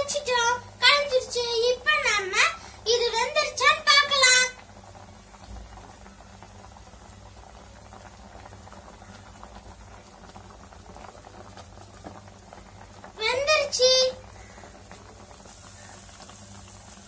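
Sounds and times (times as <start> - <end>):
water boiling in pot: 0.0 - 17.0.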